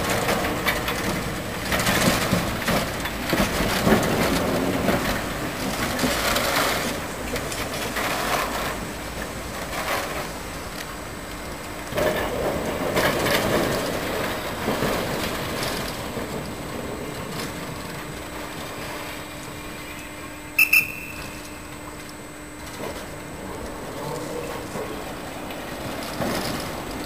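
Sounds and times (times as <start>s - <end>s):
tram wheels clattering on rails: 0.0s - 18.2s, 22.8s - 27.0s
faint steady hum: 0.0s - 27.0s.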